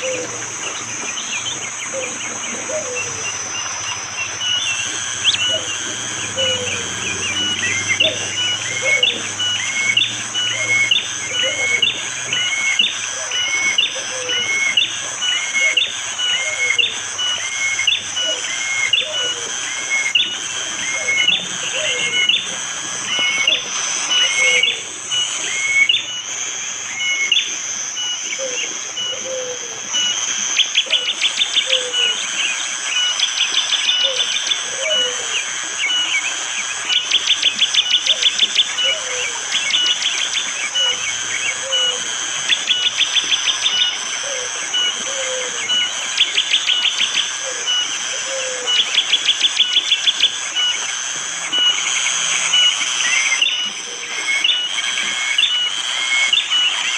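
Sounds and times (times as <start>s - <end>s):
bird rattling tick calls: 0.0s - 56.9s
birds whistled notes: 0.0s - 56.9s
high forest hiss: 0.0s - 56.9s
lower slurred bird calls: 0.0s - 56.9s.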